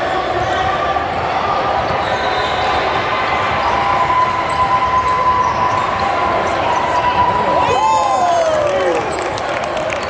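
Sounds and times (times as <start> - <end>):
din of players and spectators: 0.0 - 10.0.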